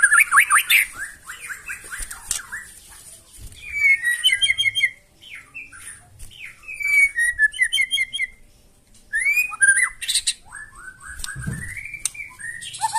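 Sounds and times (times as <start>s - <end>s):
bird singing whistled phrases: 0.0s - 2.7s, 3.6s - 8.4s, 9.1s - 12.9s.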